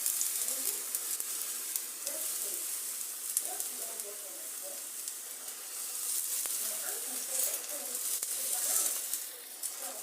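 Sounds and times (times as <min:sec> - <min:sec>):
batter sizzling in a pan: 0:00.0 - 0:10.0.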